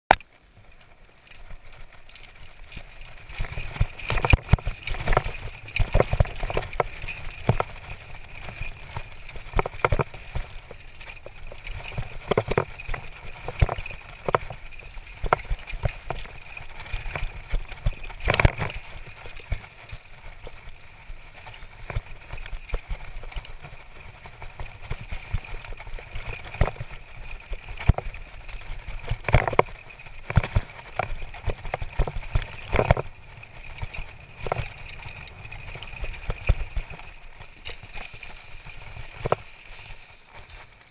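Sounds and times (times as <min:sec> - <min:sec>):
bike knocks and rattles: 0:00.1 - 0:40.9
bike tyres on dirt and leaves: 0:00.1 - 0:40.9.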